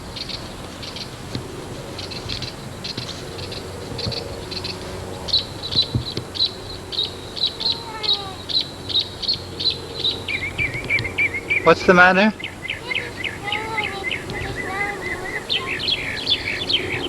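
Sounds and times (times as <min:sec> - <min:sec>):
falling call: 0:00.0 - 0:17.0
insects chirping: 0:00.0 - 0:17.0.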